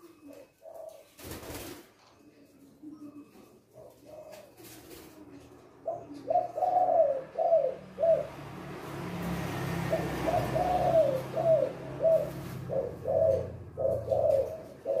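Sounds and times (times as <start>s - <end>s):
doves cooing: 0.0s - 15.0s.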